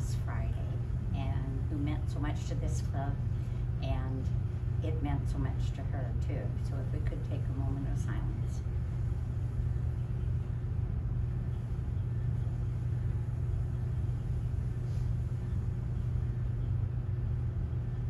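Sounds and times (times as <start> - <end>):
low room rumble: 0.0 - 18.0.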